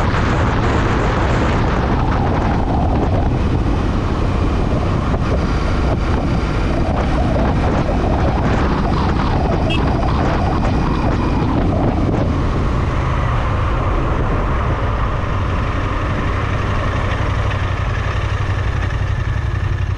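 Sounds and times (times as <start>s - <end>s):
motorcycle engine at road speed: 0.0s - 19.9s
wind on microphone: 0.0s - 19.9s.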